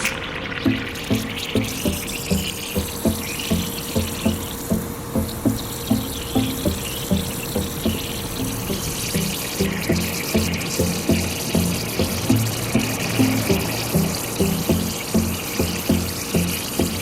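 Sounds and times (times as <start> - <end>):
water running: 0.0 - 17.0
music with plucked low beat: 0.7 - 17.0.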